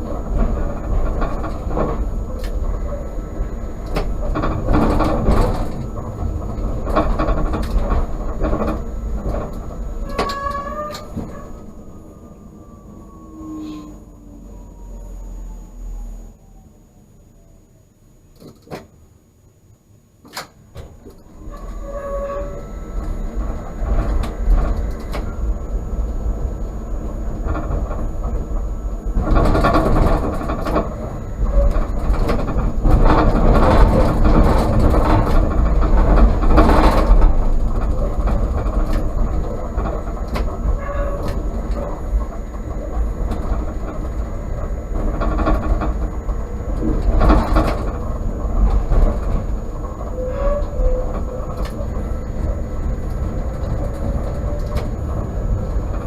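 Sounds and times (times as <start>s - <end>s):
tram rumbling on rails: 0.0s - 56.0s.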